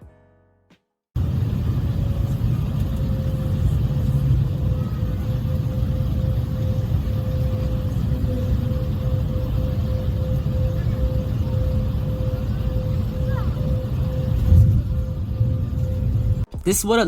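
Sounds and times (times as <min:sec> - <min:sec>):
steady whine: 0:01.2 - 0:16.8
jet engines rumbling: 0:01.2 - 0:17.0.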